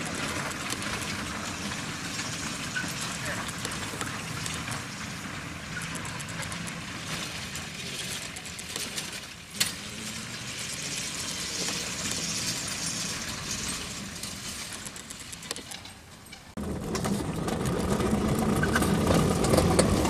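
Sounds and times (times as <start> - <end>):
wheels clattering over rails: 0.0 - 20.0.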